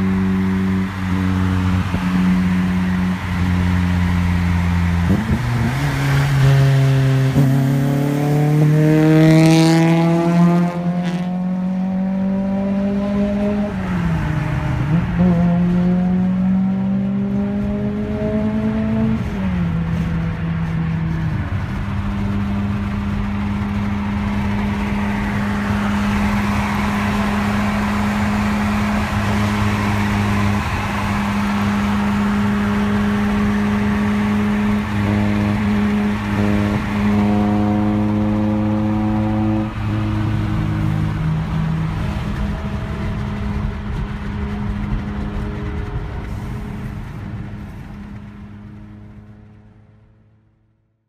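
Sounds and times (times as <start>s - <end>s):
car engine droning: 0.0s - 50.9s
road and wind noise: 0.0s - 51.0s.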